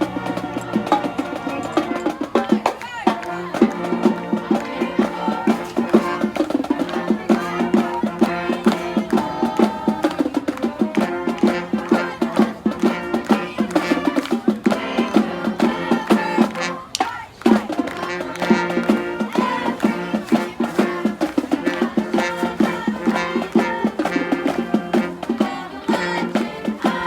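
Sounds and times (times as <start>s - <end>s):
brass: 0.0s - 27.0s
marching band playing: 0.0s - 27.0s
steady drum beat: 0.0s - 27.0s.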